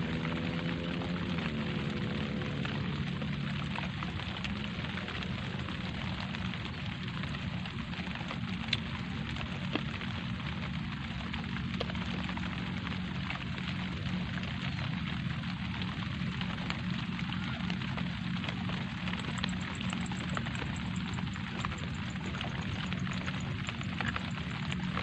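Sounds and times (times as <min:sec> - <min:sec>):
light rain pattering on leaves: 0:00.0 - 0:25.0.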